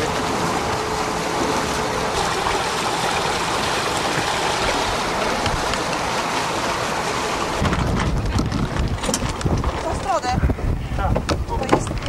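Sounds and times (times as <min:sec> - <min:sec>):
water rushing along a hull: 0:00.0 - 0:12.0
wind: 0:00.0 - 0:12.0.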